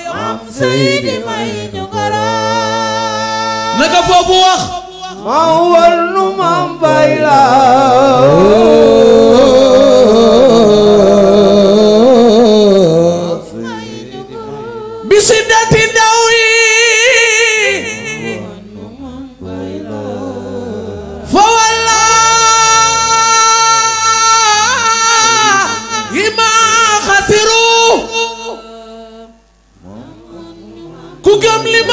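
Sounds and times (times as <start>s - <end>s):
man singing into a microphone: 0.0s - 19.4s, 21.3s - 29.4s, 30.8s - 31.9s.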